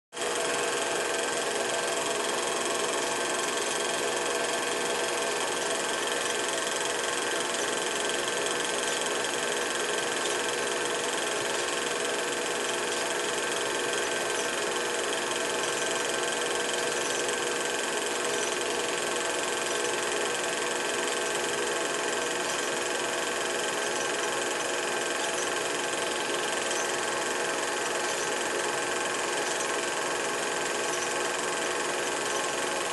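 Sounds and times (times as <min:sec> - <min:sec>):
film projector whirring: 0:00.1 - 0:32.9.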